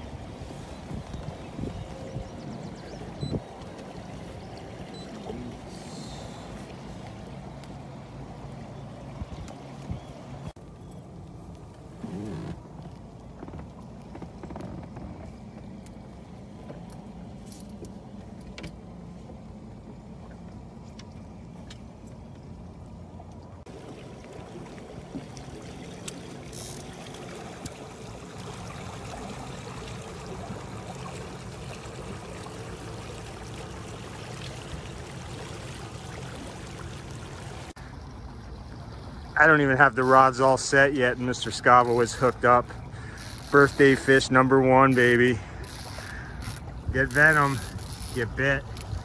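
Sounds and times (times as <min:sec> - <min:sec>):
outboard motor running: 0:00.0 - 0:49.0
water washing along hull: 0:00.0 - 0:49.0.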